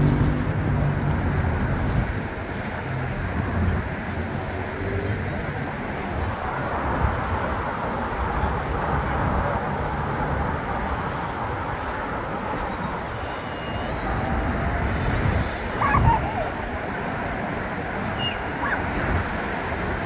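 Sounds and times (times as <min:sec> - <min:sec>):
traffic hiss and rumble: 0:00.0 - 0:20.0.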